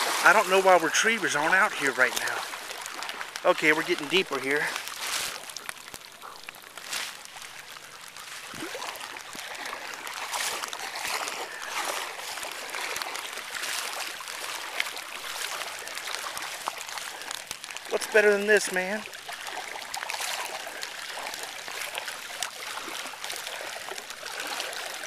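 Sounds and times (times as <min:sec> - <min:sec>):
wading through water: 0:00.0 - 0:25.0.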